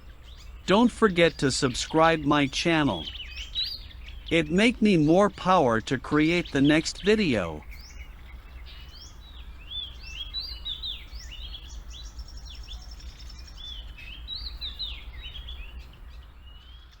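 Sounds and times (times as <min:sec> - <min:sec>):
birds chirping and twittering: 0:00.0 - 0:17.0.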